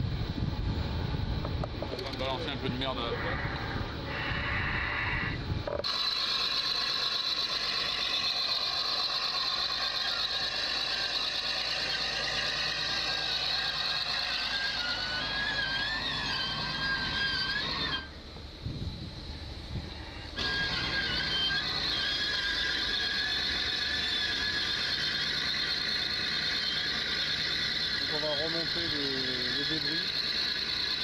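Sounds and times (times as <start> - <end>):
wavering squeal: 2.1 - 18.3, 19.2 - 31.0.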